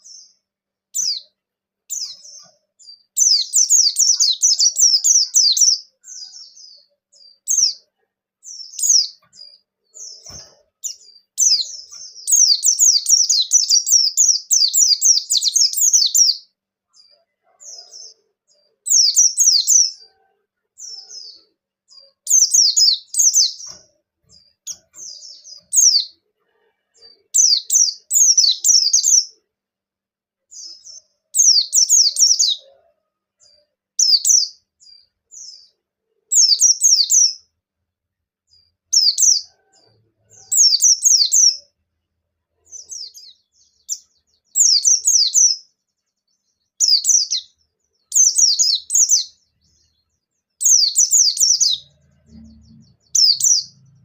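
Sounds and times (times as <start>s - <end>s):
small bird chattering song: 0.0s - 20.2s, 20.8s - 26.2s, 27.0s - 29.5s, 30.5s - 37.5s, 38.5s - 41.8s, 42.6s - 54.0s.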